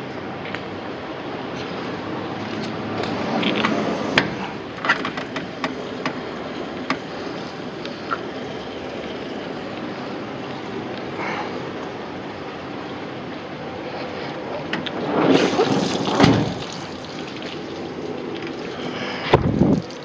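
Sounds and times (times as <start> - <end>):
steady rushing noise: 0.8 - 18.2.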